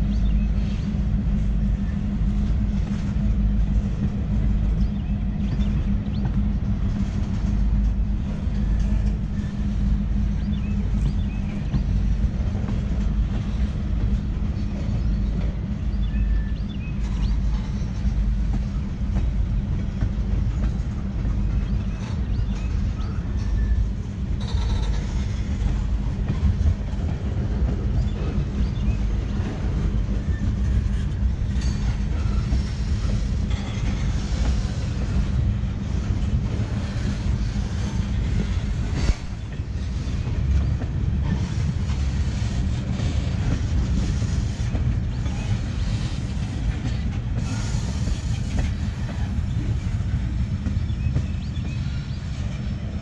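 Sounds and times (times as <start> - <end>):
steel wheels rumbling on rails: 0.0 - 53.0.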